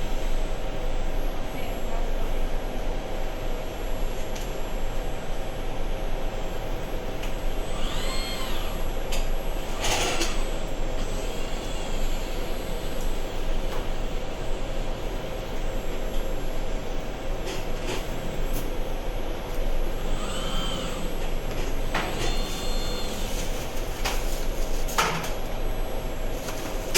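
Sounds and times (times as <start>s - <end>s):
steady mechanical noise: 0.0s - 26.9s.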